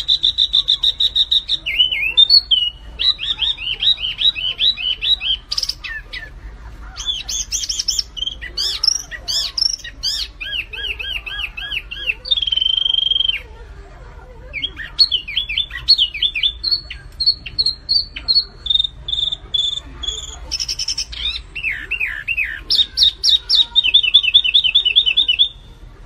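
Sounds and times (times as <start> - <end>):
songbird singing whistled notes: 0.0 - 6.3, 7.0 - 13.5, 14.5 - 25.7.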